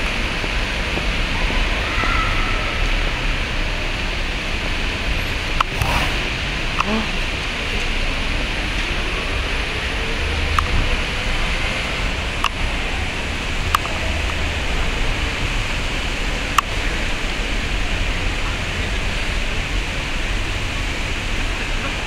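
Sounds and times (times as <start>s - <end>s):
traffic on wet street: 0.0s - 22.0s.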